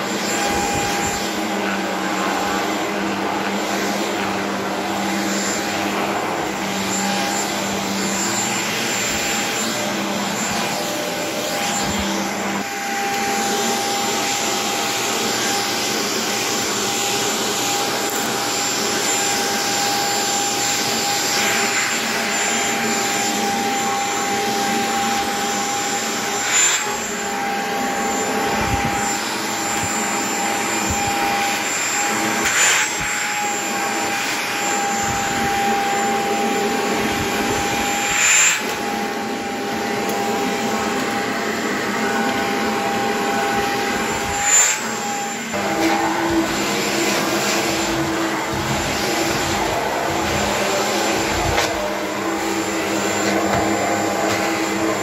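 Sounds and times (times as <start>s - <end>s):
stick vacuum running on carpet: 0.0s - 55.0s.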